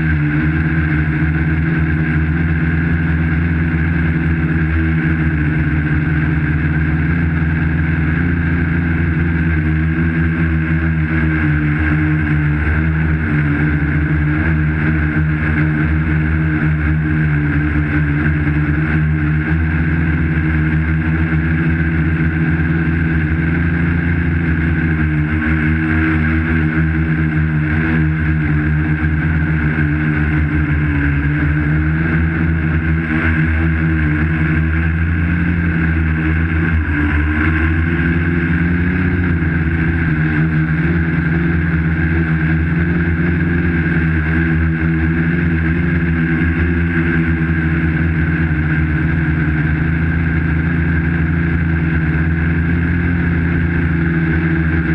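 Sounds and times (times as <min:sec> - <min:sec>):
quadcopter motors humming: 0:00.0 - 0:54.9.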